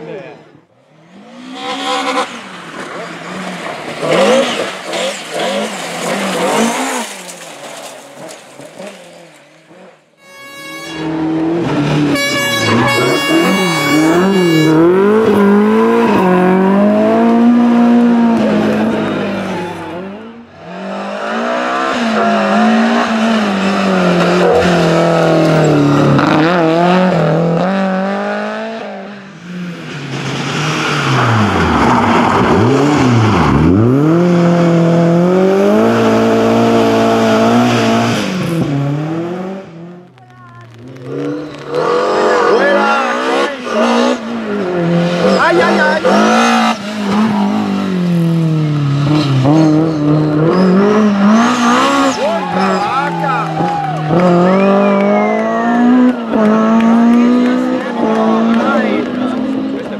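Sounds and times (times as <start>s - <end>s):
rally car engine at full throttle: 0.0s - 59.9s.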